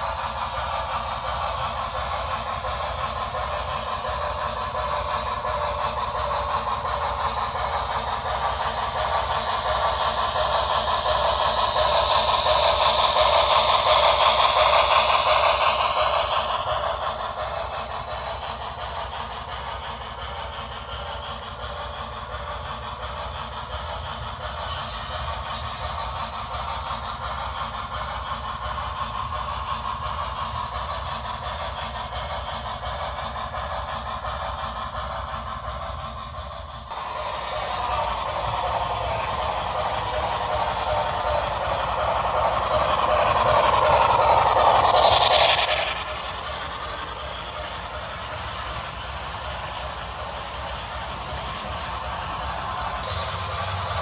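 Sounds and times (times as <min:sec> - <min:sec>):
model train rolling past: 0:00.0 - 0:54.0.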